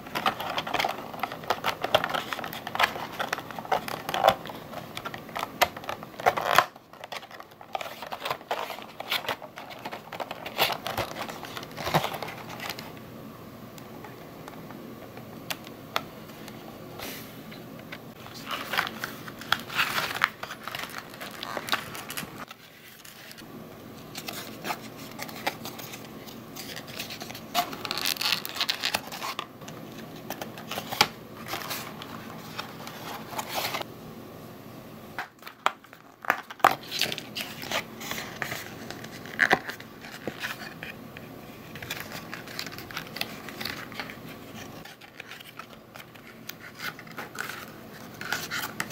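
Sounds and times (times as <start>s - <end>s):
cardboard rustling and crinkling: 0.0s - 12.9s, 18.2s - 23.4s, 24.0s - 33.9s, 35.2s - 41.0s, 41.6s - 48.9s.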